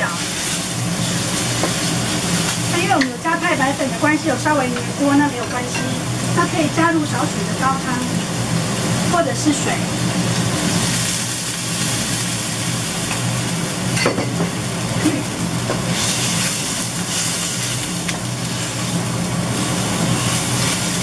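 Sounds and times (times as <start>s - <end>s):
meat sizzling in a wok: 0.0s - 21.0s.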